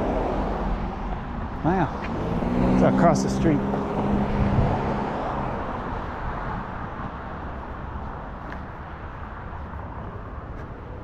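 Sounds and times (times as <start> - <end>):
car passing on street: 0.0 - 11.0.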